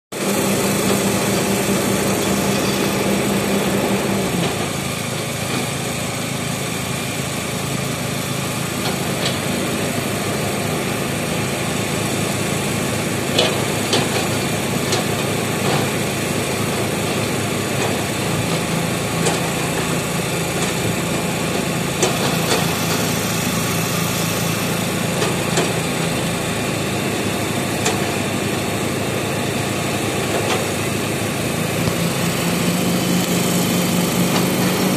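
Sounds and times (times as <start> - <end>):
heavy machine engine running: 0.2 - 34.9.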